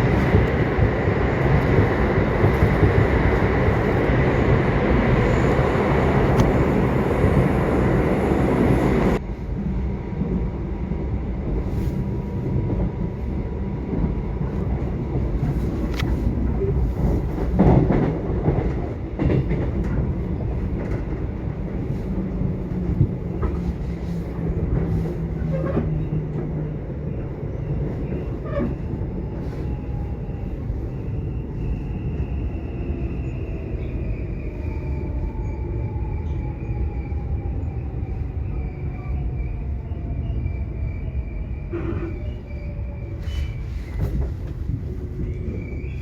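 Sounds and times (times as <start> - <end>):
subway train rumble: 0.0 - 46.0.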